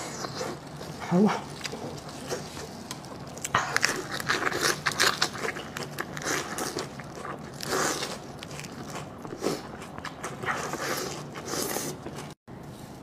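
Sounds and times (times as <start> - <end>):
wet chewing of food: 0.0 - 12.4.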